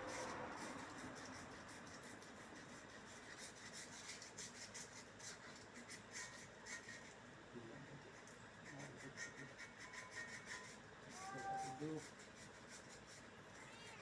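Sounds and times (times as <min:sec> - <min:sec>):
faint scratching strokes: 0:00.0 - 0:14.0.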